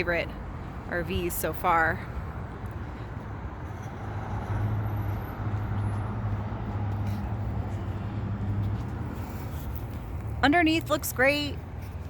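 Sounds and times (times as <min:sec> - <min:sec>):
rumbling outdoor background: 0:00.0 - 0:12.0.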